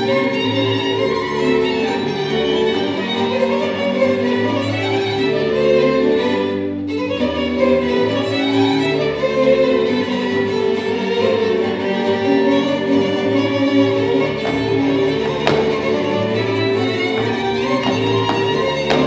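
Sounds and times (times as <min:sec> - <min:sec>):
violins playing slow sustained notes: 0:00.0 - 0:19.0.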